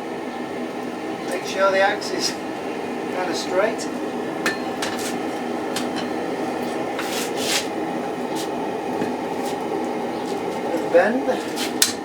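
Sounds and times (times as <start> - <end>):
gas forge burner rushing: 0.0 - 12.0.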